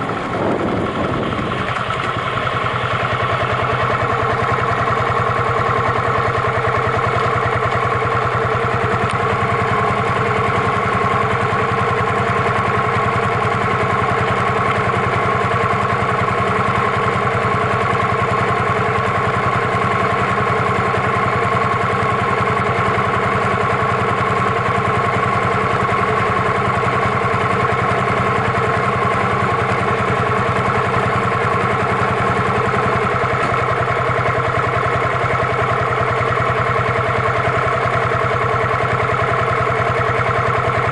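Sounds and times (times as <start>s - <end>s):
single-cylinder engine running: 0.0s - 40.9s.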